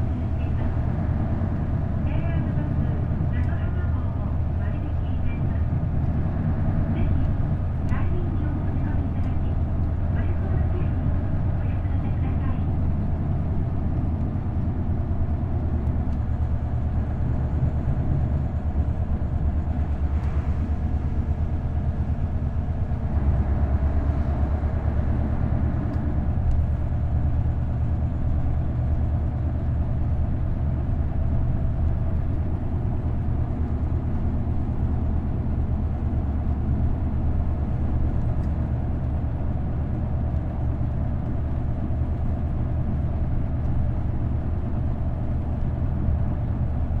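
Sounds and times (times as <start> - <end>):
bus diesel engine droning: 0.0 - 47.0.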